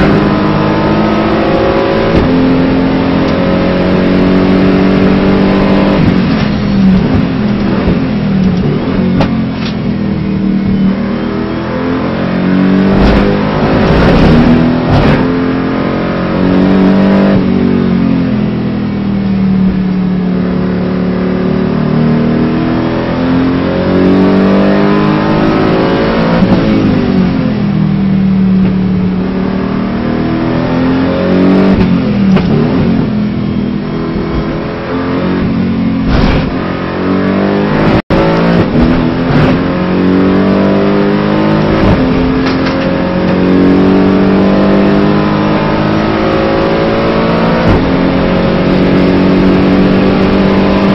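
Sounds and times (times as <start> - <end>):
race car engine revving: 0.0 - 18.2, 19.6 - 27.6, 28.2 - 50.9.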